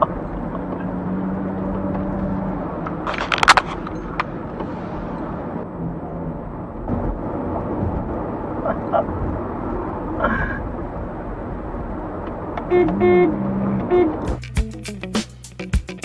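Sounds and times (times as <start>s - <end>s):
vehicle humming: 0.0s - 15.7s.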